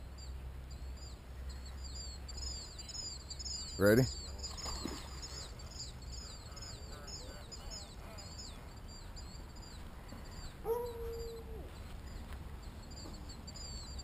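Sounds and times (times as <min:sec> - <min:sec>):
small birds chirping: 0:00.0 - 0:14.0
held bird call: 0:01.5 - 0:14.0.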